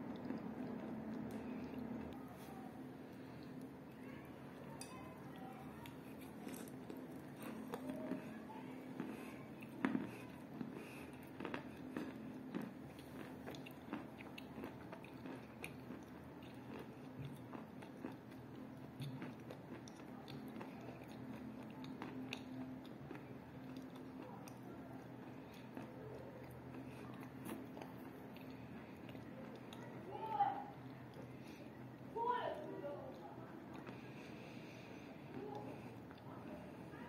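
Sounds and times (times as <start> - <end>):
chewing chalk with crunches: 0.0 - 32.1, 33.1 - 37.0
faint steady hum: 0.0 - 37.0.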